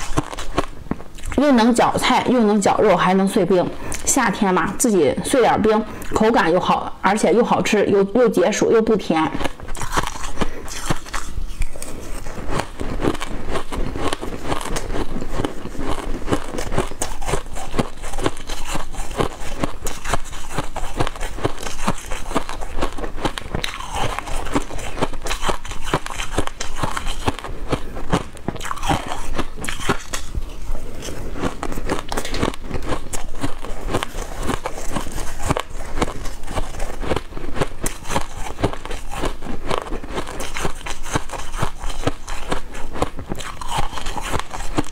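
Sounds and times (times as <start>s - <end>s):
chewing crushed ice: 0.0s - 4.1s, 8.5s - 44.9s.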